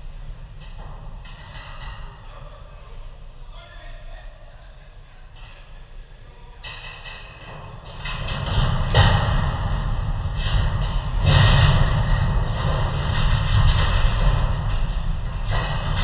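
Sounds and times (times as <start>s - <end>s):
low rumble in echoing hall: 0.0s - 16.0s.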